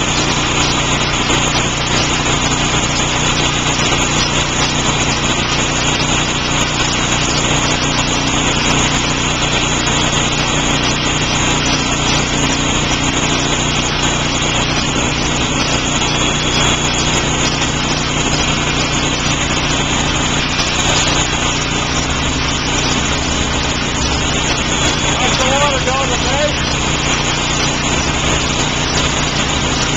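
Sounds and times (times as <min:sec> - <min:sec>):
rotary polishers grinding glass: 0:00.0 - 0:29.9.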